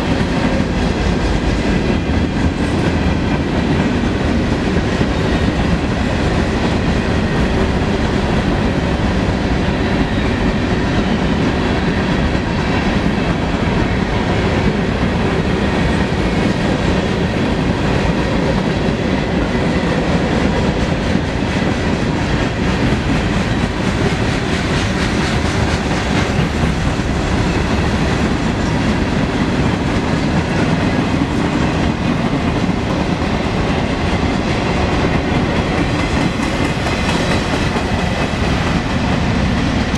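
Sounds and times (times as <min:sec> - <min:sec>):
steel wheels on rails: 0:00.0 - 0:39.9.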